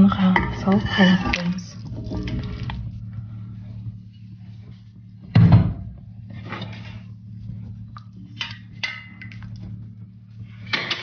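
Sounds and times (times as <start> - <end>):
steady low hum: 0.0 - 11.0
water boiling in a pot: 0.0 - 11.0.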